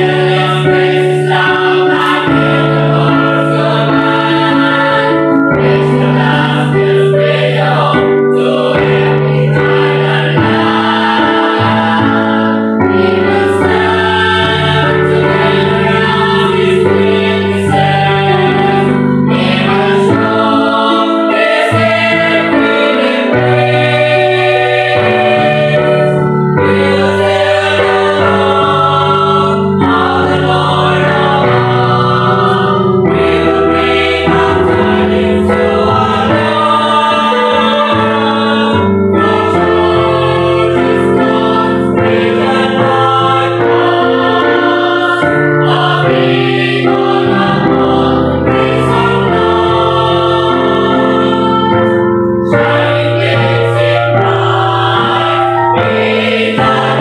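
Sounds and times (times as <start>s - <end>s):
choir singing a hymn in harmony: 0.0s - 57.0s.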